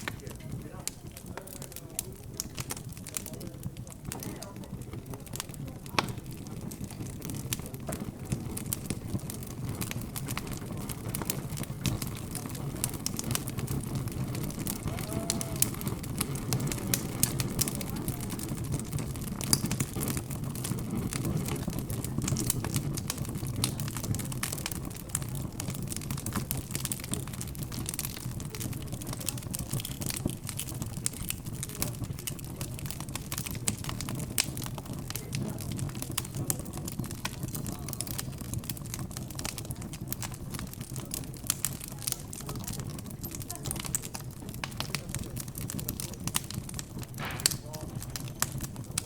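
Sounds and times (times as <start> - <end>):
murmur of background chatter: 0.0 - 49.0
wood fire crackling: 0.0 - 49.0.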